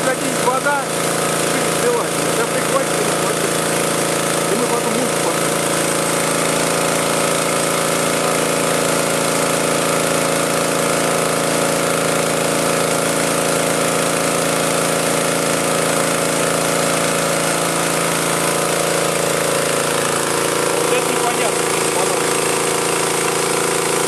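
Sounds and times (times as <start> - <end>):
air compressor engine drone: 0.0 - 24.0.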